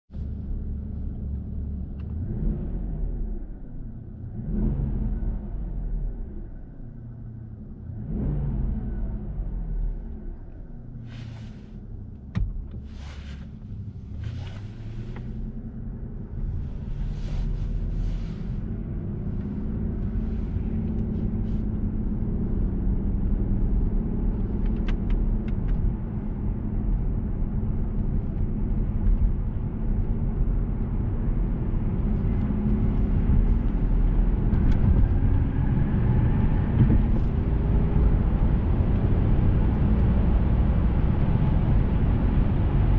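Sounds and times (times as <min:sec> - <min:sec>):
car engine hum: 0:00.1 - 0:42.9
road rumble: 0:00.1 - 0:42.9.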